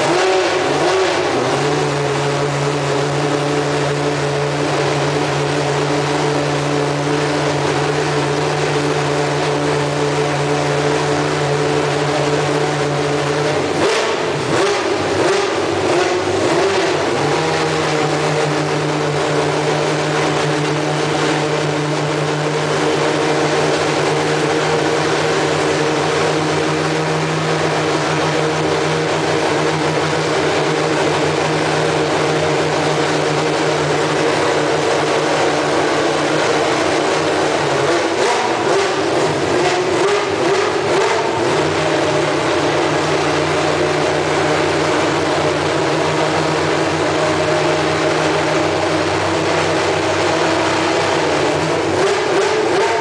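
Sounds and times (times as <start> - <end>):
race car engine idling: 0.0 - 53.0.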